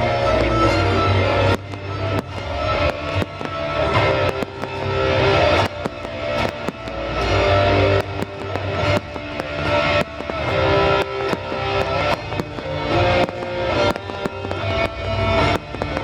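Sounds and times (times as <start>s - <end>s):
fireworks popping and banging: 0.0s - 16.0s.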